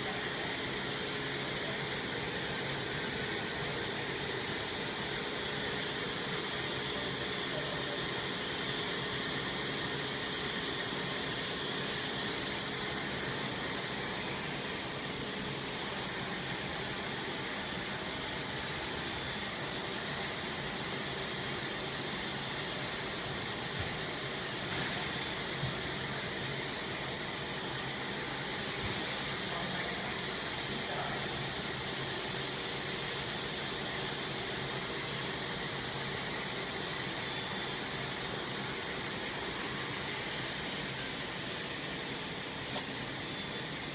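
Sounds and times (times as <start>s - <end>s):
machine hum with hiss: 0.0s - 43.9s.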